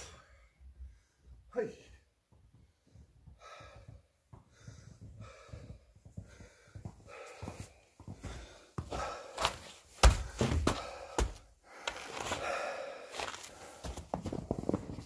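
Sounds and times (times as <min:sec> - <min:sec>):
man breathing heavily: 0:00.0 - 0:01.5, 0:02.3 - 0:15.0.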